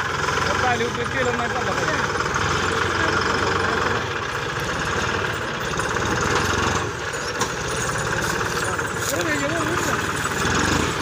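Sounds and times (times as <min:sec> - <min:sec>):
tractor diesel engine clattering: 0:00.0 - 0:11.0.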